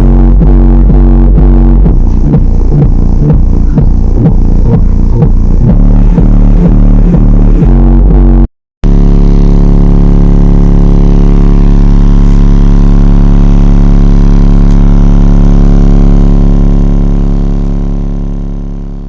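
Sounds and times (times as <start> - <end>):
low bass drone: 0.0 - 19.0.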